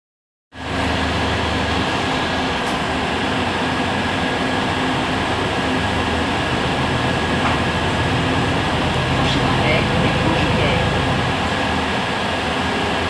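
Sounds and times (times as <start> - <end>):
fans running: 0.6 - 13.0
thin steady whine: 0.6 - 13.0
bus engine idling: 0.7 - 13.0.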